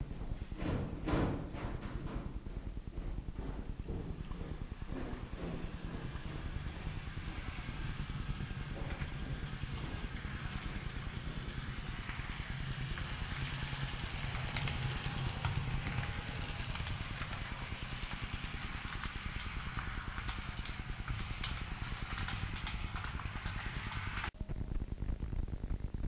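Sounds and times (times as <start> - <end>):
model train rumbling: 0.0 - 24.4.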